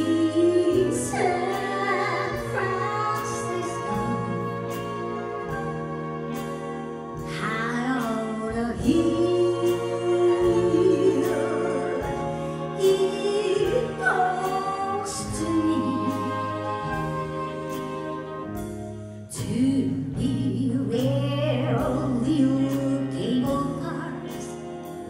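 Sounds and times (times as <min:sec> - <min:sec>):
woman singing: 0:00.0 - 0:04.9, 0:07.2 - 0:18.1, 0:19.3 - 0:24.8
jazz big band horns: 0:00.0 - 0:25.0
piano: 0:00.0 - 0:25.0.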